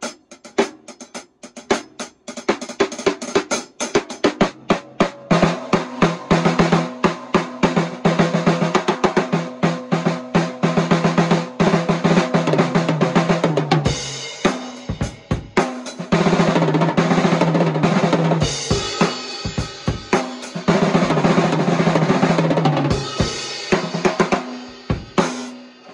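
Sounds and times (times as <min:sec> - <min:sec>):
snare drum played with sticks: 0:00.0 - 0:25.9.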